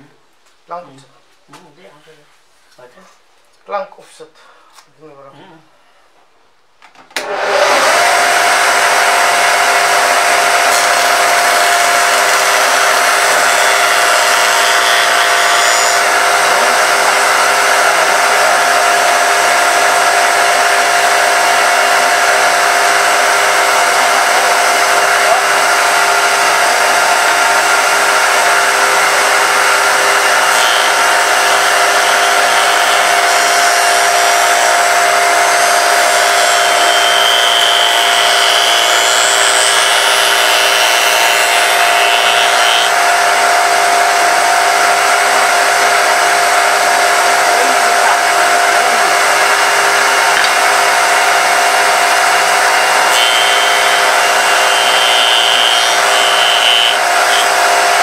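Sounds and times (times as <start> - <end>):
cutter cutting wood: 7.2 - 58.0
wood shaper whining: 7.2 - 58.0.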